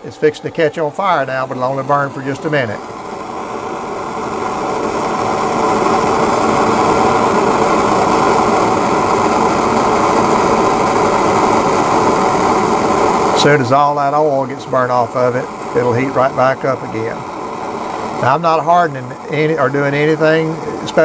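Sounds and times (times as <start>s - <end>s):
propane torch burning: 0.0s - 21.0s.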